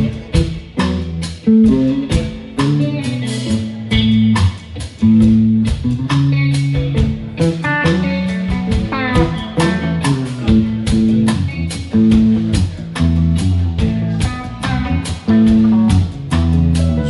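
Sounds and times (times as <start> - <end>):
electric guitar lead: 0.0 - 17.0
rock band playing: 0.0 - 17.0.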